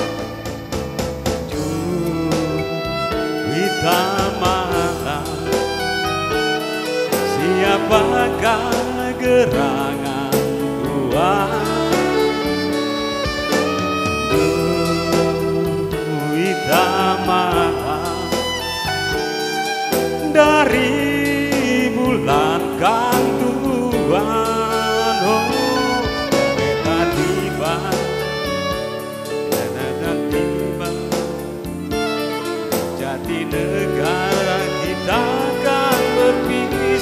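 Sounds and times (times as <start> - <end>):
keyboard chords: 0.0 - 37.0
violin melody: 0.0 - 37.0.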